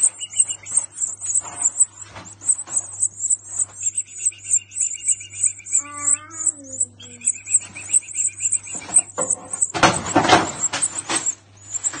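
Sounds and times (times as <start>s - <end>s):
nestlings cheeping: 0.0s - 12.0s.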